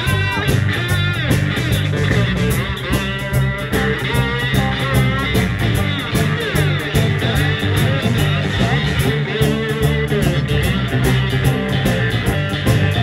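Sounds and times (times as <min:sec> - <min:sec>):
bass guitar: 0:00.0 - 0:13.0
electric guitar solo: 0:00.0 - 0:13.0
steady drum beat: 0:00.0 - 0:13.0.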